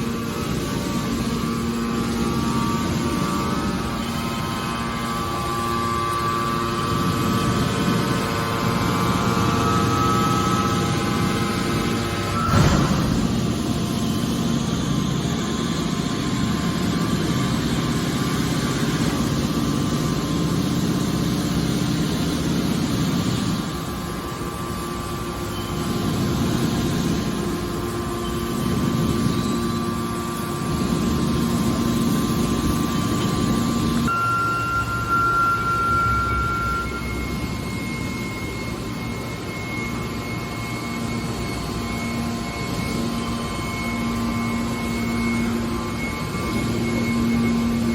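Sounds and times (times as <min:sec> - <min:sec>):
baler machine hum: 0:00.0 - 0:47.9
high whine: 0:00.0 - 0:47.9.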